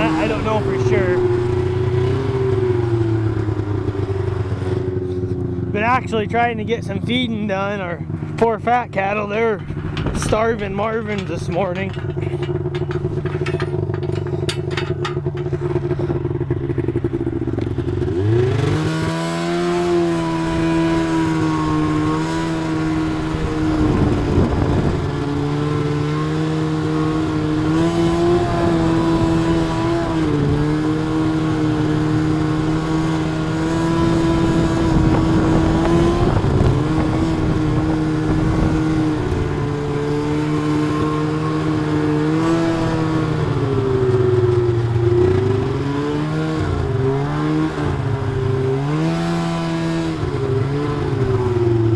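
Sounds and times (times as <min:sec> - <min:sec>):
vehicle engine running: 0:00.0 - 0:51.9.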